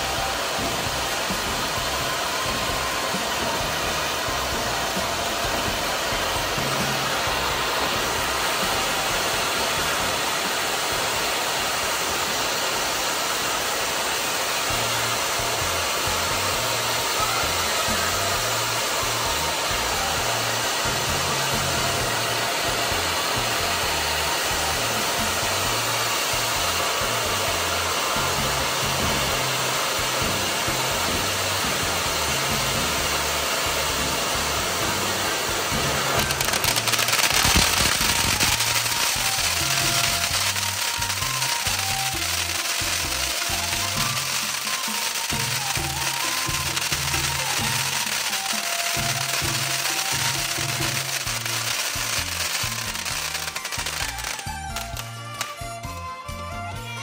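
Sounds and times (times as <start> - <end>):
fountain fireworks hissing: 0.0 - 57.0.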